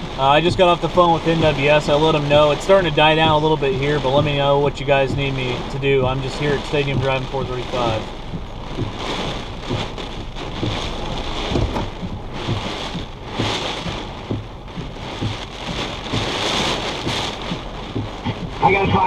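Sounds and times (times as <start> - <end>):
low knocks on car body: 0.0 - 18.6
heavy rain beating on a vehicle: 0.0 - 19.0
wind gusts: 0.0 - 19.0.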